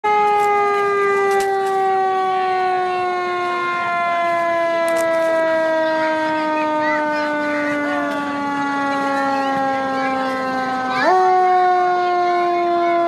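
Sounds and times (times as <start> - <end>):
fire truck siren winding down: 0.0 - 13.0.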